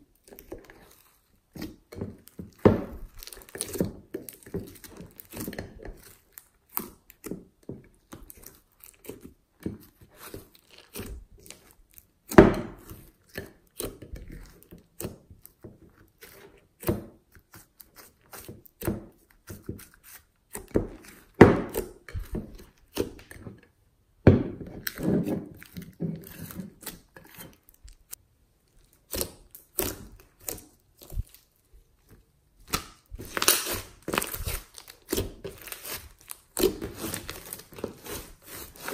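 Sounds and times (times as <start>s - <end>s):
slime squelching by hand: 0.0s - 23.8s, 24.6s - 38.9s.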